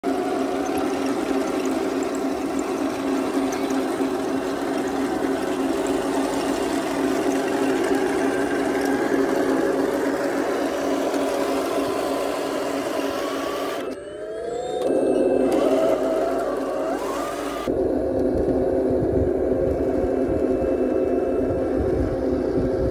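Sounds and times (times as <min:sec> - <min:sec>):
model tank motors whirring: 0:00.0 - 0:22.9.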